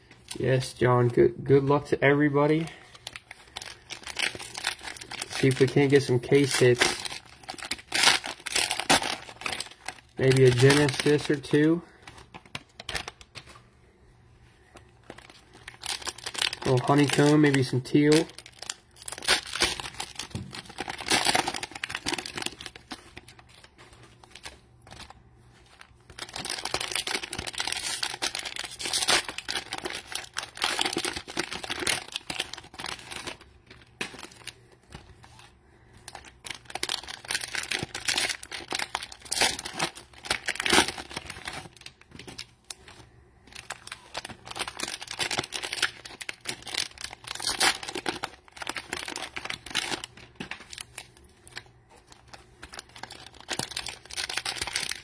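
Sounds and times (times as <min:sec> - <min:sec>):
plastic wrappers crinkling: 0:02.2 - 0:13.6, 0:14.6 - 0:55.0.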